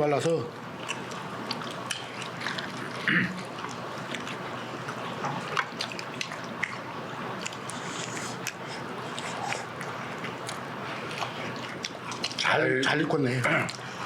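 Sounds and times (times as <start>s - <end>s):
wet chewing and mouth sounds: 0.7s - 14.0s.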